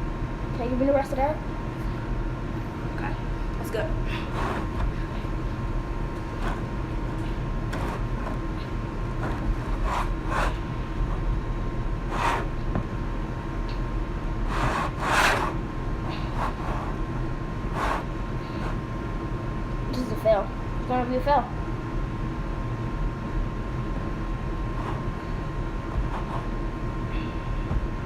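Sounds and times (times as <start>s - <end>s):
room hum: 0.0s - 28.0s.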